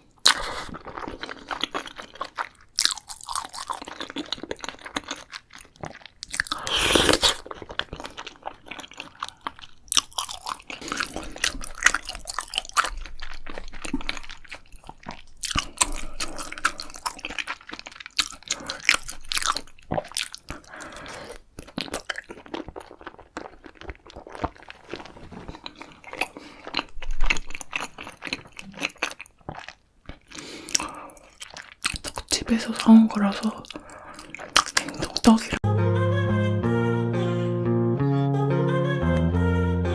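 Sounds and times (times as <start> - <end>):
person chewing crunchy food: 0.0 - 35.4.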